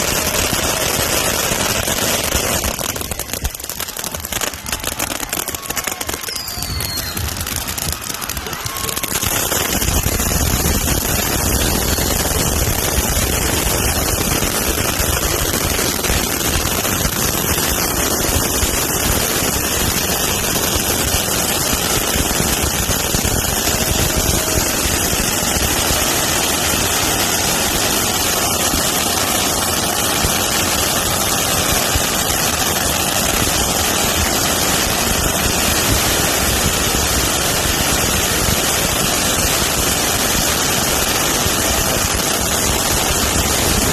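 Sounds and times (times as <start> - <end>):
ground fountain fireworks hissing: 0.0 - 43.9.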